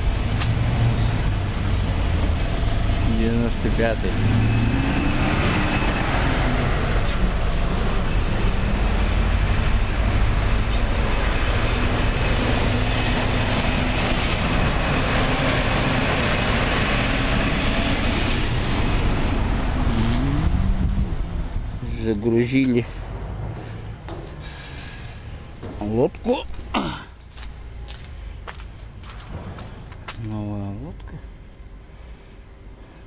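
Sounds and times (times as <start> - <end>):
vehicle engines running: 0.0 - 31.2.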